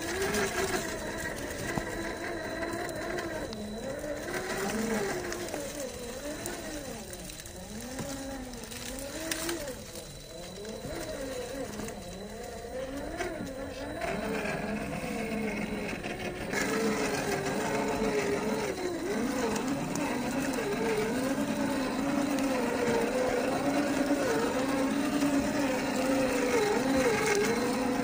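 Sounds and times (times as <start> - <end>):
electric motor and drivetrain whining: 0.0 - 28.0.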